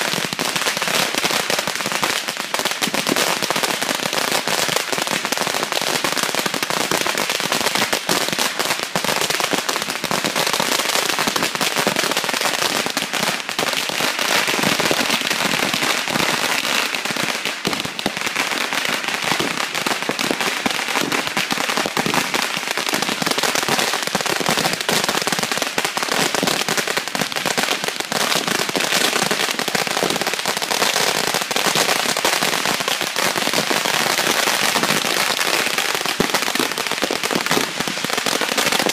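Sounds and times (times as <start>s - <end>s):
firecrackers popping rapidly: 0.0s - 38.9s.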